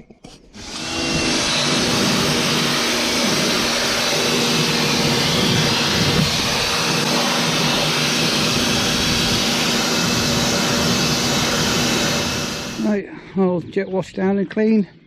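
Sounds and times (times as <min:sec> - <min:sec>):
pressure washer spraying: 0:00.7 - 0:12.8.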